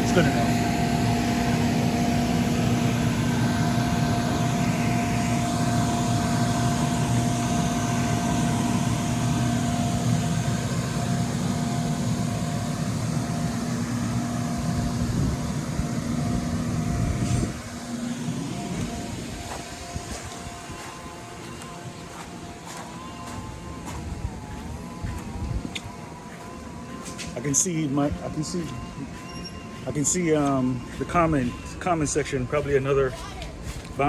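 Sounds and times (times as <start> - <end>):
inflation blower running: 0.0 - 34.0.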